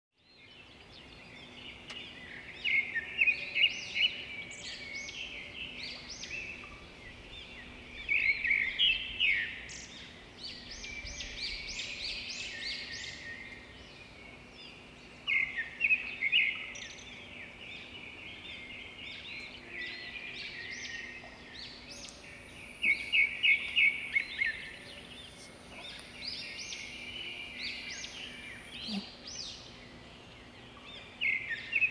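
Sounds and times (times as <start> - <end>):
outdoor background hiss: 0.2 - 31.9
birds chirping: 0.3 - 31.9.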